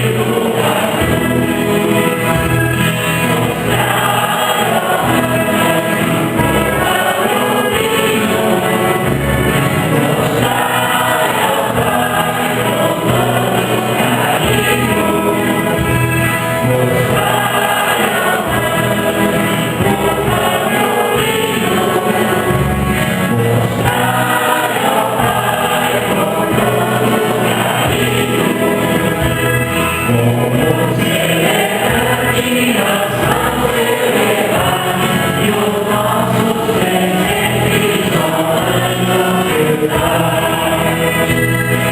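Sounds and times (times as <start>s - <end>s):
church choir singing a hymn: 0.0s - 41.9s
steady bass notes: 0.0s - 41.9s.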